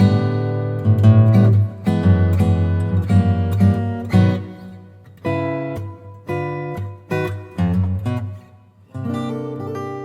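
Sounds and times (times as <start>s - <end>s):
acoustic guitar strummed chords: 0.0s - 10.0s.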